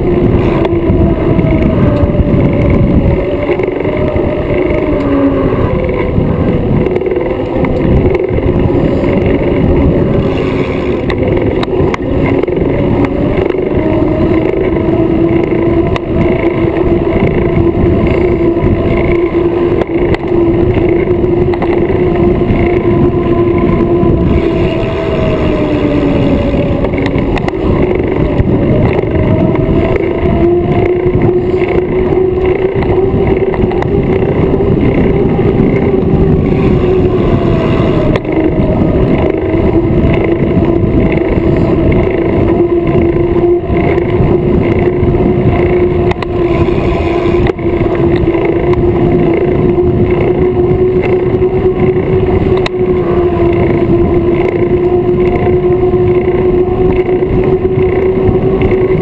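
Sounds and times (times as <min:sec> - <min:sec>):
droning hum: 0:00.0 - 0:59.0
wind buffeting on microphone: 0:00.0 - 0:59.0.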